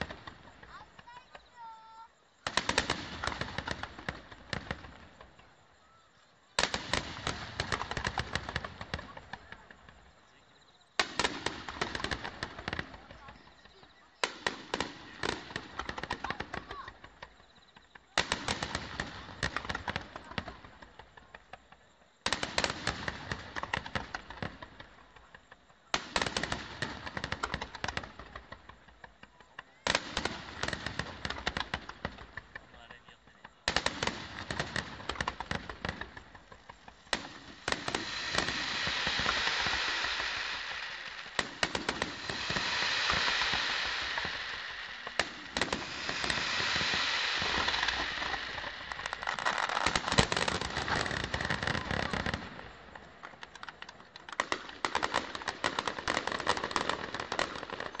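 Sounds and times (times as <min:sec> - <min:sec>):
fireworks bangs: 0:00.0 - 0:58.0.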